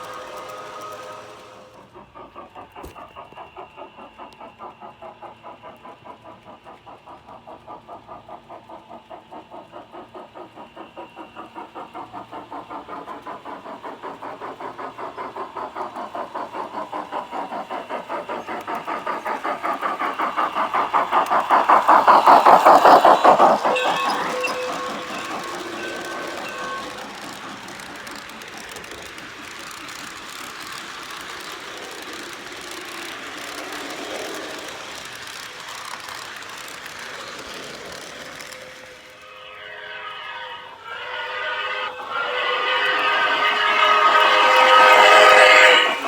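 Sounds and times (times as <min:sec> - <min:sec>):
model steam locomotive chuffing: 0:00.0 - 0:46.0.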